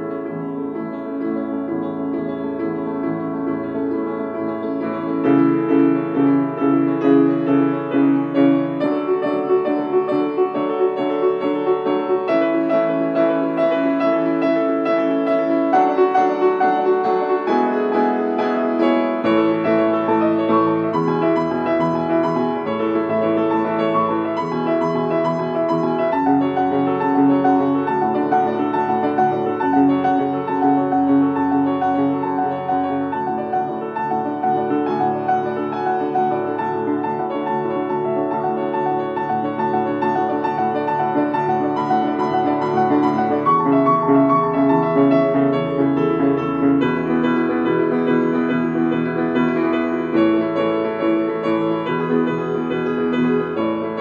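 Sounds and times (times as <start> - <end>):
piano music: 0.0 - 54.0.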